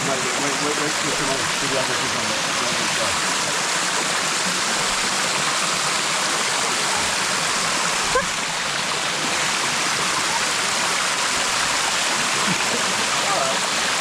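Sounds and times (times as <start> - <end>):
waterfall cascading over rock: 0.0 - 14.0.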